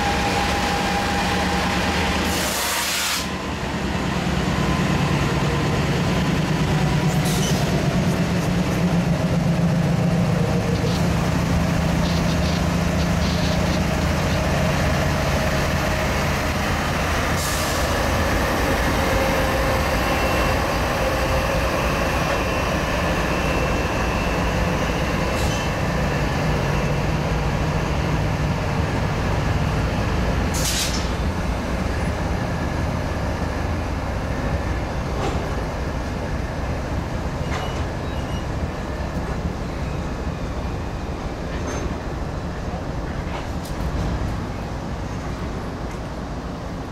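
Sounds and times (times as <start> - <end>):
diesel locomotive engine drone: 0.0 - 46.9
freight cars rumbling: 3.2 - 46.9.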